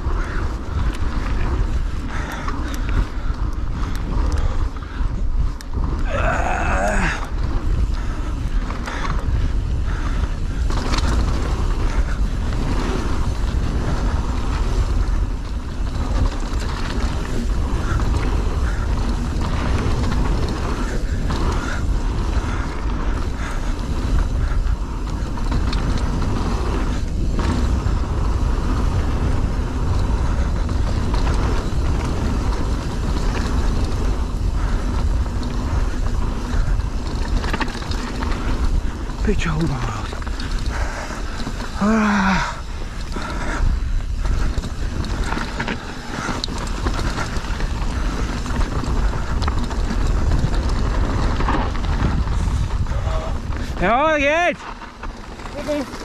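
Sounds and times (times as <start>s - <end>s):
bike clattering over rough trail: 0.0s - 56.0s
wind on microphone: 0.0s - 56.0s.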